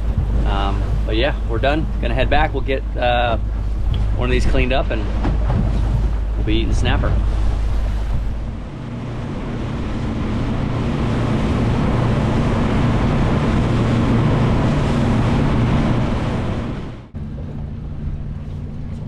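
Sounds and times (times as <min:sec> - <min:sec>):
hull spray: 0:00.0 - 0:19.0
outboard motors running: 0:00.0 - 0:19.0
wind on microphone: 0:00.0 - 0:19.0.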